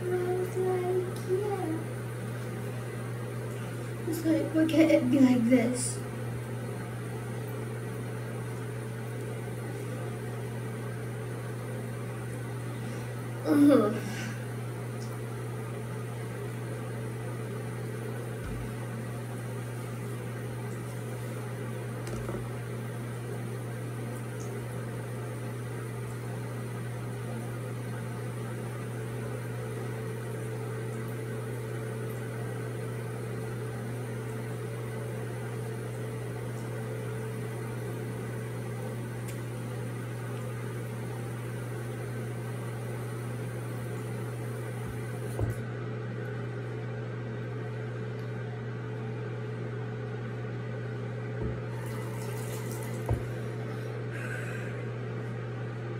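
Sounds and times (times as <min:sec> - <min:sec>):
electrical hum with hiss: 0:00.0 - 0:55.9.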